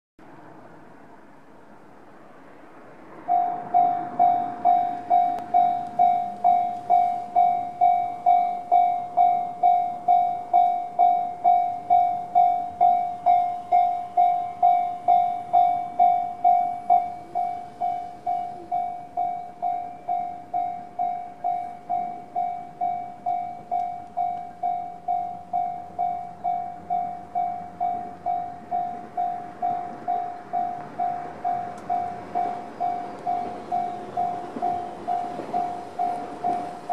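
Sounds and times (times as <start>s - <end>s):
level crossing warning bell: 3.2s - 36.9s.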